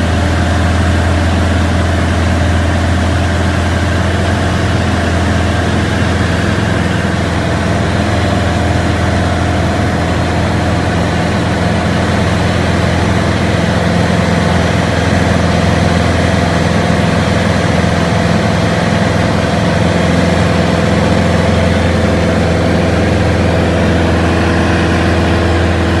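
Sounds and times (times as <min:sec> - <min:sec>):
propeller aircraft engine drone: 0:00.0 - 0:26.0.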